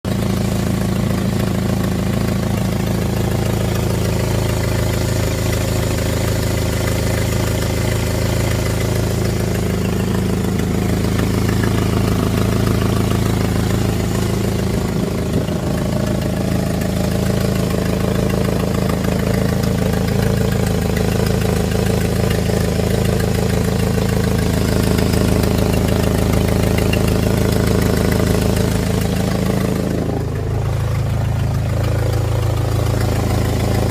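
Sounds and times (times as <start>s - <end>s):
engine idling with exhaust leak: 0.0s - 33.9s.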